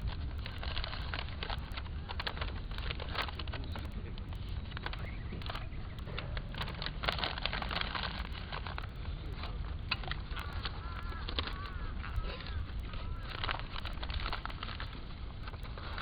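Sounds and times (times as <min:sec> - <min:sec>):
wind on microphone: 0:00.0 - 0:16.0
wood fire crackling and popping: 0:00.0 - 0:16.0.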